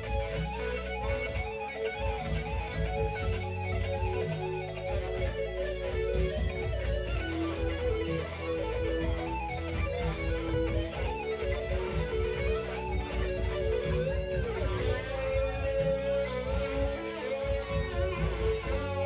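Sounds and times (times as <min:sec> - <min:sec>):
bass guitar: 0:00.0 - 0:19.0
electric guitar lead: 0:00.0 - 0:19.0.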